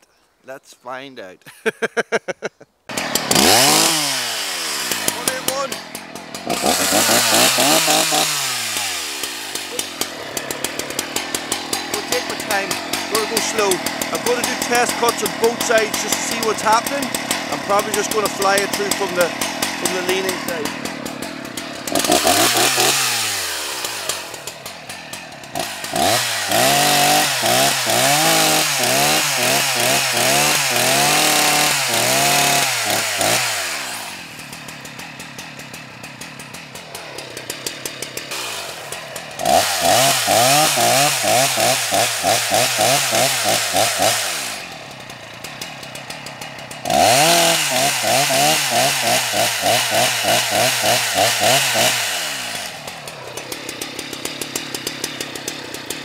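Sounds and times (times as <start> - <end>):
chainsaw cutting into wood: 2.9 - 56.0
chainsaw idling: 2.9 - 56.0.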